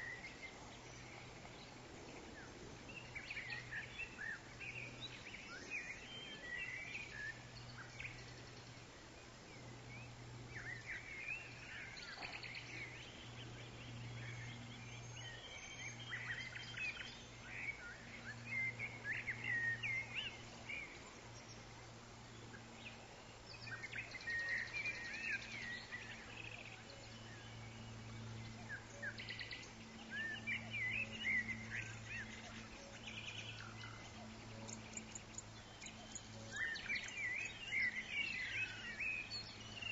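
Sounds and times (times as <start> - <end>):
birds chirping and trilling: 0.0 - 39.9
steady low hum: 0.0 - 39.9.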